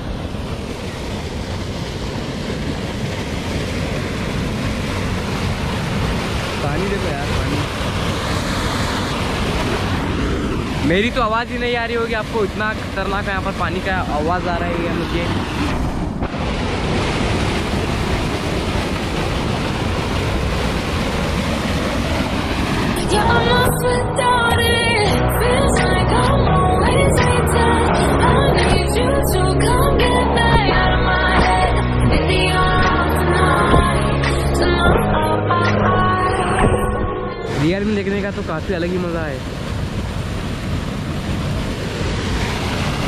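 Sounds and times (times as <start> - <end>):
water surging and rushing: 0.0 - 43.0.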